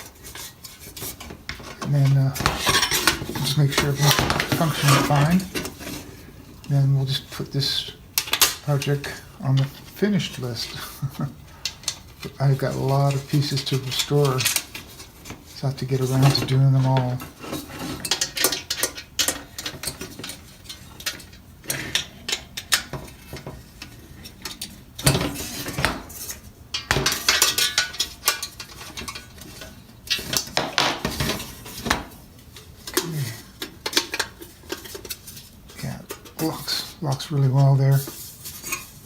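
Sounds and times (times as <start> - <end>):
metal helmet parts clinking: 0.0 - 39.0.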